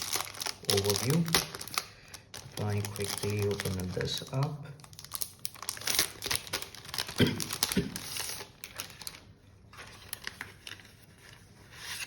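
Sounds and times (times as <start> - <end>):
cardboard packaging crinkling: 0.0 - 12.0.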